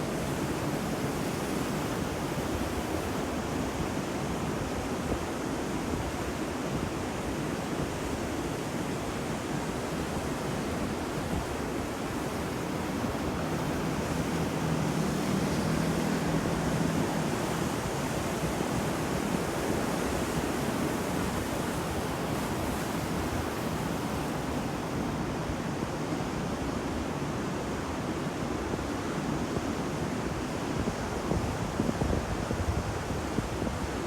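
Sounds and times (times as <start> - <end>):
sea waves washing on shore: 0.0 - 34.0.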